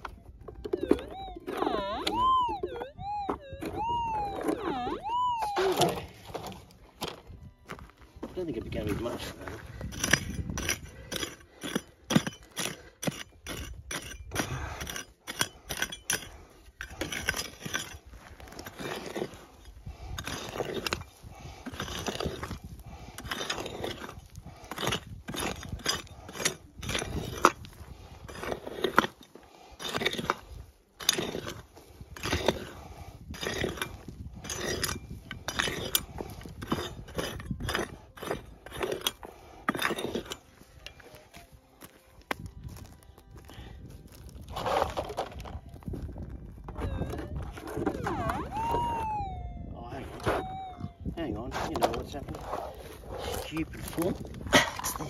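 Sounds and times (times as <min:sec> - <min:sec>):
pick striking stony ground: 0:00.0 - 0:49.1
scraping in stony ground: 0:05.7 - 0:48.6, 0:50.1 - 0:55.0.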